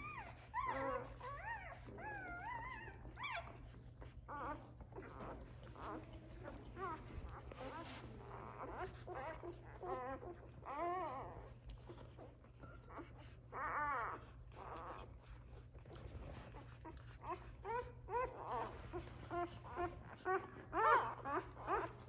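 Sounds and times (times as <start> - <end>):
puppies squealing and whimpering: 0.0 - 15.2, 16.0 - 22.0.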